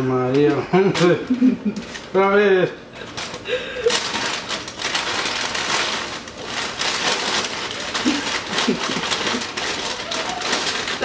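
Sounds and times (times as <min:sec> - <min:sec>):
paper bag crinkling and rustling: 0:00.0 - 0:11.0.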